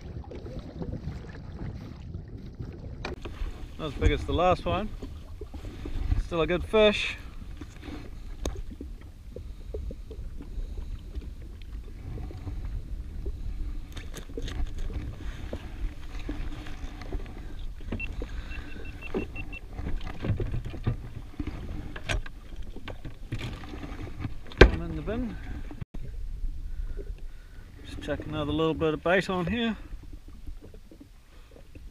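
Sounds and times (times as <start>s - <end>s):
water and wind rumble: 0.0s - 31.9s.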